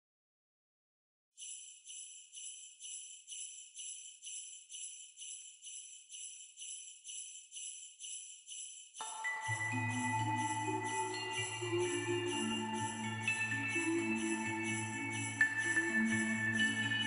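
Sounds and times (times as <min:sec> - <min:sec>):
jingle bells shaken in a beat: 0:01.4 - 0:17.0.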